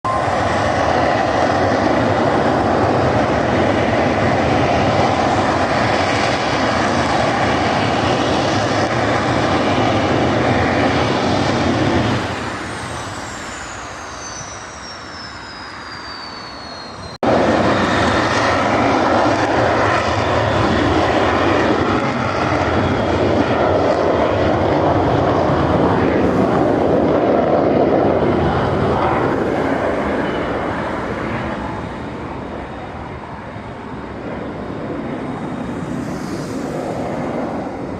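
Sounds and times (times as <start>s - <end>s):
high jet whine falling in pitch: 0.0s - 37.9s
loud jet engine noise: 0.0s - 37.9s.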